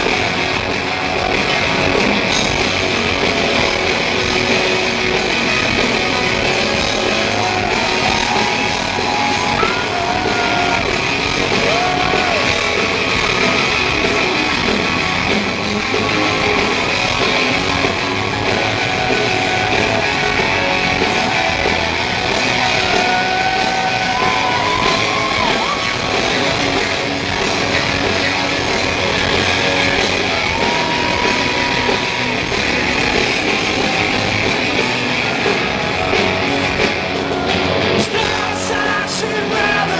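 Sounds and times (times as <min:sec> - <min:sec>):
electric guitar: 0:00.0 - 0:39.9
live rock band playing: 0:00.0 - 0:39.9.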